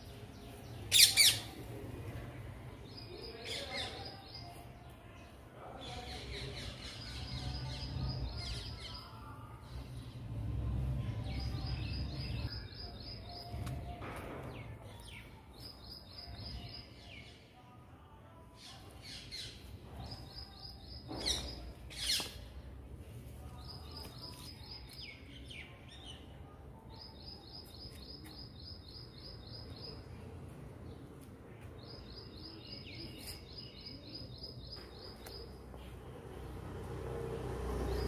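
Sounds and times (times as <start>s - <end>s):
low background noise: 0.0s - 37.8s.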